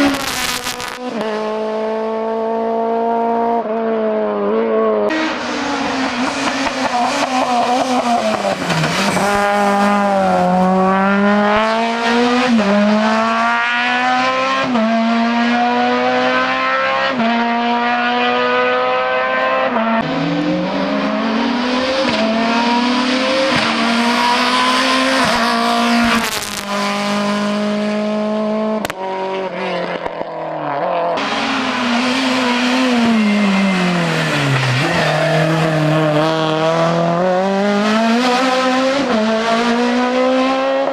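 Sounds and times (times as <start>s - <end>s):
racing car engine accelerating: 0.0s - 40.9s.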